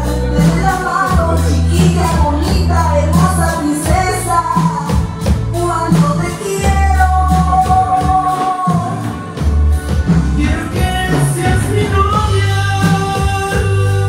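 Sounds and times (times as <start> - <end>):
man singing: 0.0 - 4.9, 5.5 - 9.4, 10.2 - 14.0
bass guitar: 0.0 - 14.0
drums with steady beat: 0.0 - 14.0
electric guitar: 0.0 - 14.0
keyboard: 0.0 - 14.0.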